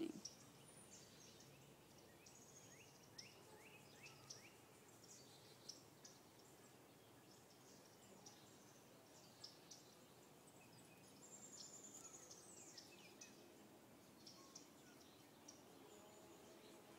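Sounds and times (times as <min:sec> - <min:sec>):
background hiss: 0:00.0 - 0:16.9.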